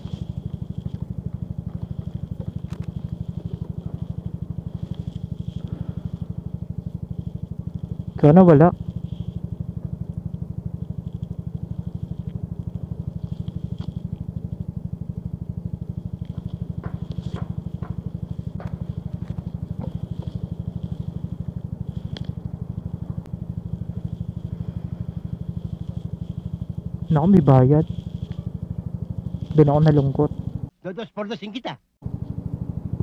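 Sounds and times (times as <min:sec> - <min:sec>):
motorcycle engine running: 0:00.0 - 0:30.8, 0:32.0 - 0:33.0.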